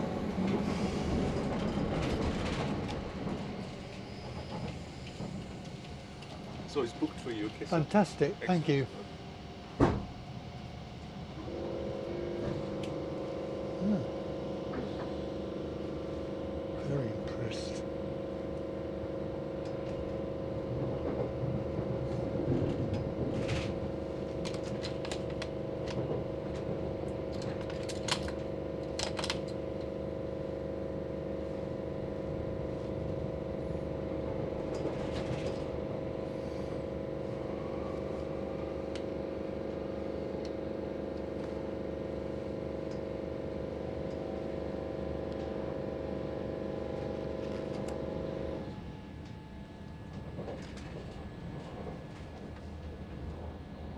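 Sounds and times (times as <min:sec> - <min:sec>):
train motor hum and rolling noise: 0:00.0 - 0:53.9.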